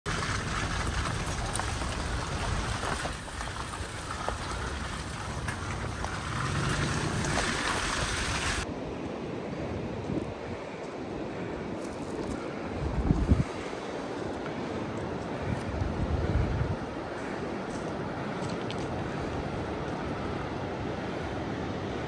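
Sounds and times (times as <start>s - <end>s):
ocean surf: 0.1s - 22.0s
steady rumbling noise: 0.1s - 22.0s
wind hiss: 0.1s - 22.0s.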